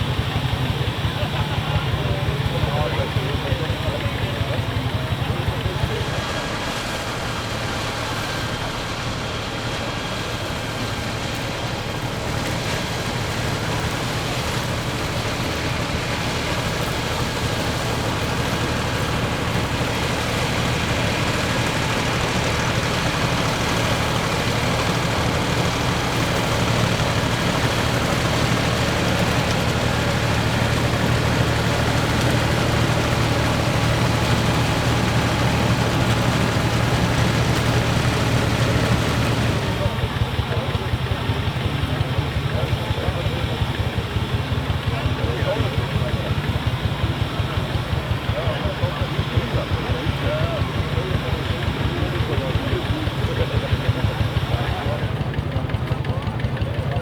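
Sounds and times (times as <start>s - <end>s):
tractor and combine drone: 0.0s - 57.0s.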